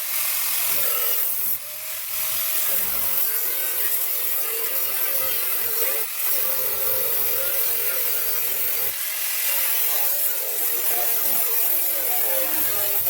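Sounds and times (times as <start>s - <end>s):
power tool cutting sheet steel: 0.0s - 13.0s.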